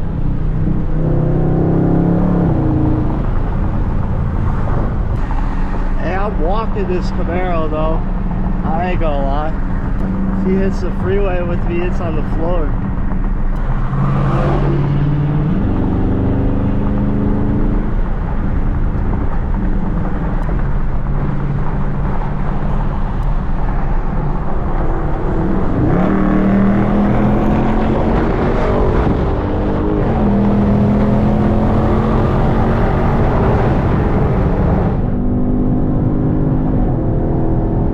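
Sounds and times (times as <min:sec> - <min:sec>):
car engine accelerating: 0:00.0 - 0:37.9
road rumble: 0:00.0 - 0:37.9.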